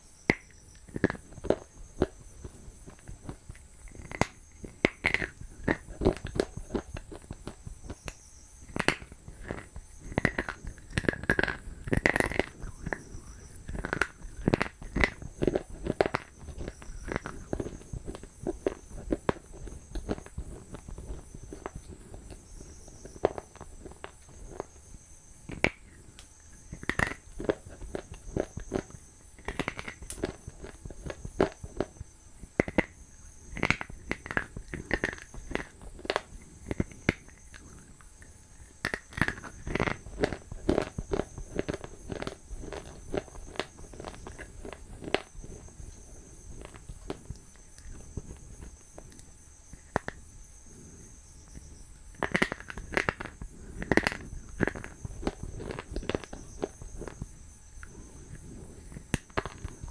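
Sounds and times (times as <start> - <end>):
mouth clicks: 0.2 - 59.9
person chewing crunchy food: 0.3 - 59.9.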